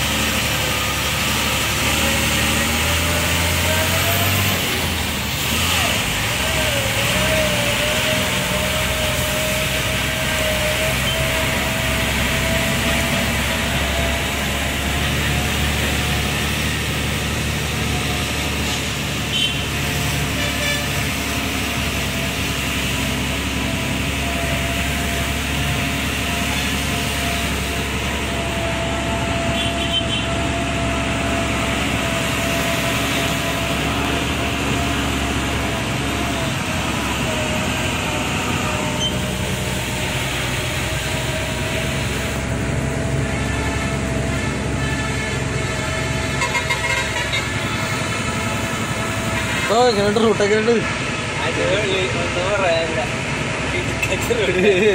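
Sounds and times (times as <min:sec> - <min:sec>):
lorry engine under load: 0:00.0 - 0:54.9.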